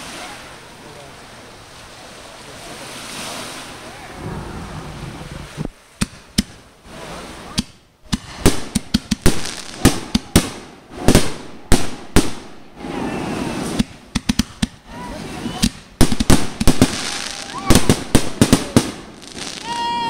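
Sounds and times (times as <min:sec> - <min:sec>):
fireworks bangs: 0:03.6 - 0:20.0.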